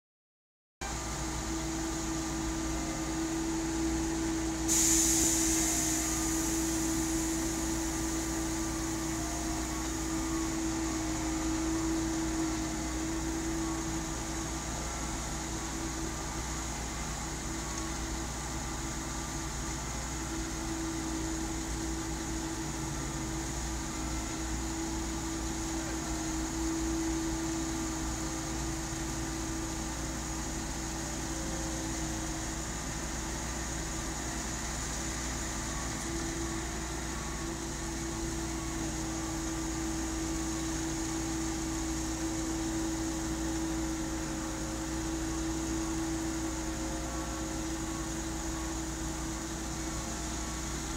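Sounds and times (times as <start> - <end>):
concrete machinery droning: 0.8 - 50.9.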